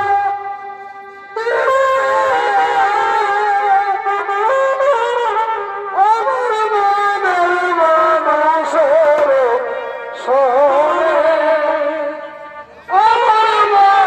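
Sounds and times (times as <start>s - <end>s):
double-reed wind instrument melody: 0.0s - 14.0s.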